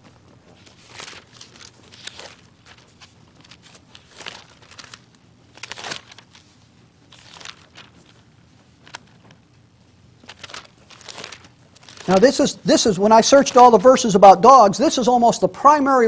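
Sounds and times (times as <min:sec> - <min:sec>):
thin pages rustling: 0:00.2 - 0:09.6, 0:10.2 - 0:13.9.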